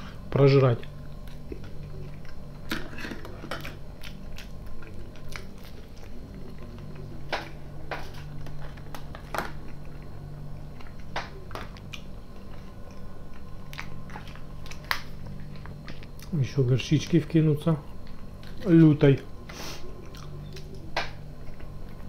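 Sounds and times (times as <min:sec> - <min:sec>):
low hum: 0:00.0 - 0:22.0
man chewing and biting: 0:00.2 - 0:16.4, 0:19.4 - 0:22.0.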